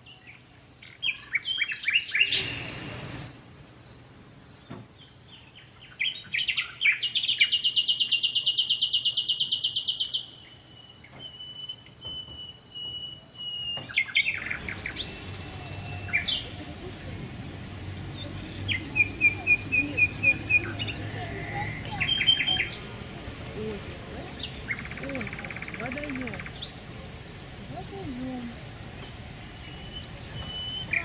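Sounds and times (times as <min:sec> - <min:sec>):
songbirds chirping and trilling: 0:00.0 - 0:31.0.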